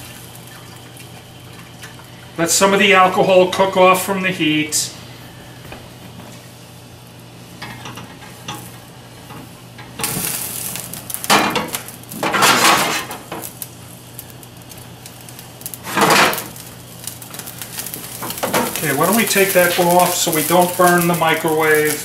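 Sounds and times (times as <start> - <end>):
alcohol sizzling in hot pan: 0.0 - 3.4, 6.2 - 22.0
flambe fire burning: 0.0 - 22.0.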